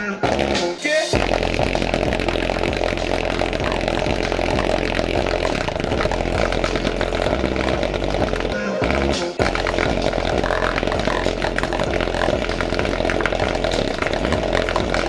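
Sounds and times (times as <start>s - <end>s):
bass-heavy music through subwoofers: 0.0s - 15.0s.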